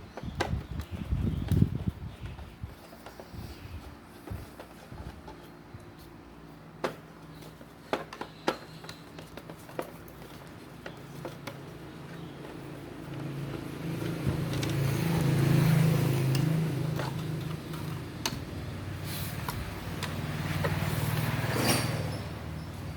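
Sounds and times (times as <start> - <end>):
fan parts and screws clicking: 0.0 - 22.9.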